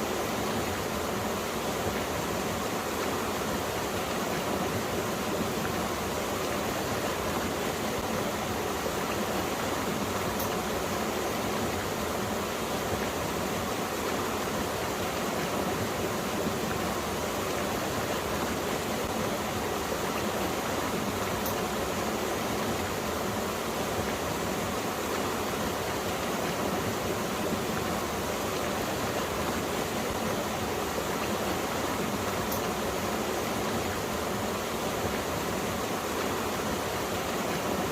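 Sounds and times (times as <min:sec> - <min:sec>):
stream flowing: 0:00.0 - 0:37.9.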